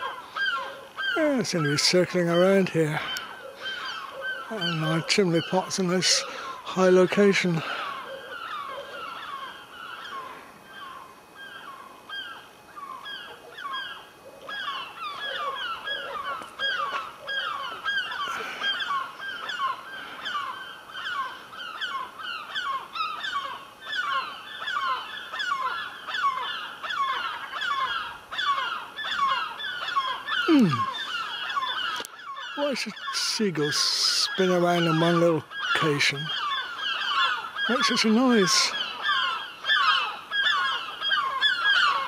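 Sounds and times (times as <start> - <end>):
gulls calling: 0.0 - 42.0.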